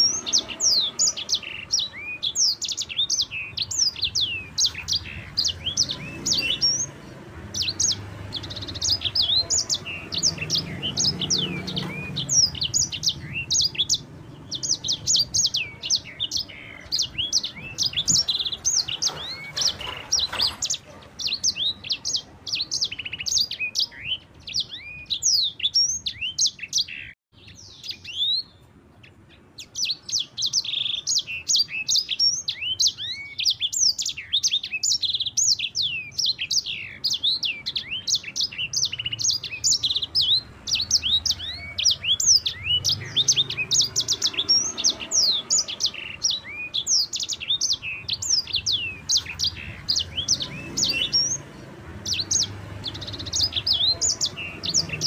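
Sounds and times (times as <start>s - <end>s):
songbird chirping rolling song: 0.0s - 55.0s.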